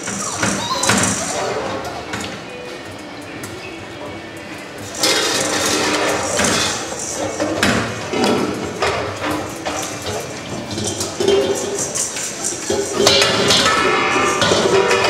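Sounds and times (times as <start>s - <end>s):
metal dog bowl clanking and scraping: 0.0s - 2.4s, 4.8s - 15.0s.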